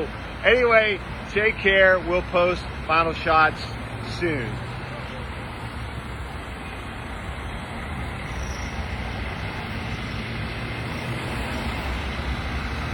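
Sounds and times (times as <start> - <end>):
passing vehicles: 0.0 - 12.9.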